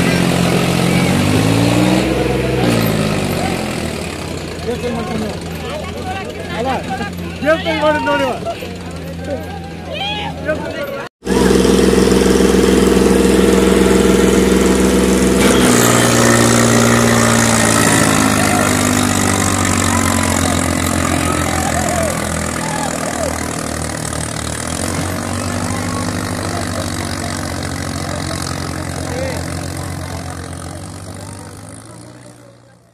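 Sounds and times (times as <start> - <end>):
diesel tractor engine revving: 0.0 - 32.9.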